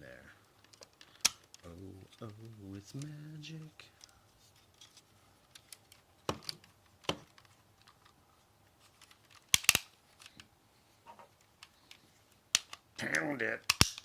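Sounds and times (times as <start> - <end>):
plastic parts clicking and snapping: 0.5 - 8.2, 8.8 - 10.5, 11.3 - 14.0.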